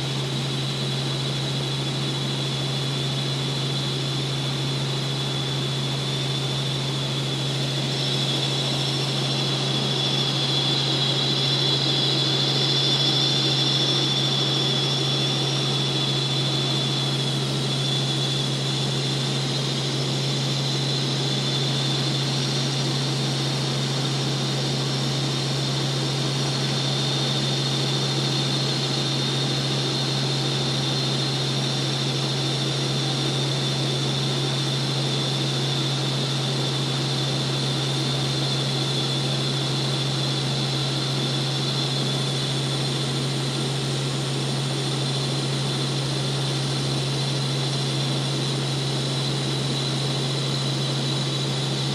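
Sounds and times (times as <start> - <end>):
helicopter cabin drone: 0.0 - 51.9
high whine: 0.0 - 51.9.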